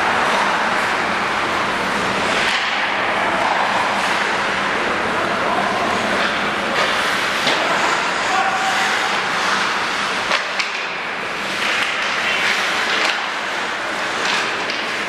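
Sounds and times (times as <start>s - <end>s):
hockey sticks and puck clacking: 0.0s - 15.0s.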